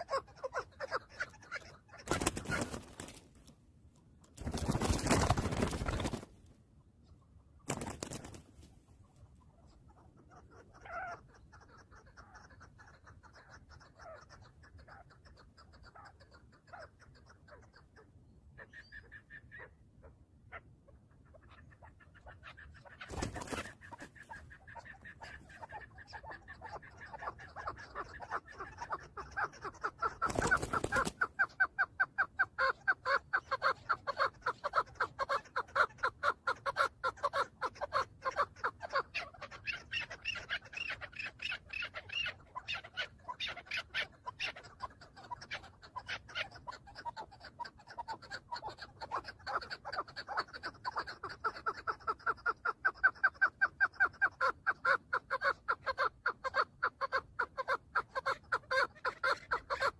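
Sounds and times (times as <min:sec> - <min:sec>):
partridge calling: 0:00.0 - 0:03.2, 0:09.0 - 0:59.9.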